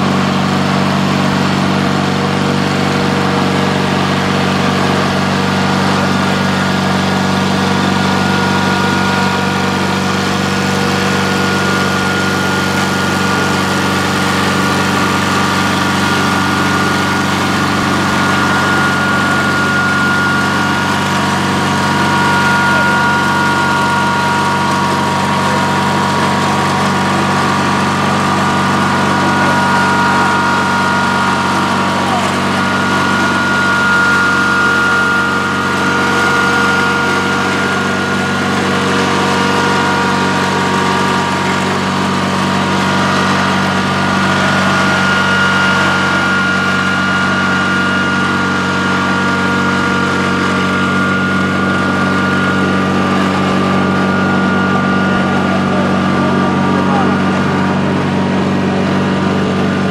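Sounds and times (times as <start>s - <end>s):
lawn tractor engine running: 0.0s - 59.9s
thin steady whine: 0.7s - 59.9s.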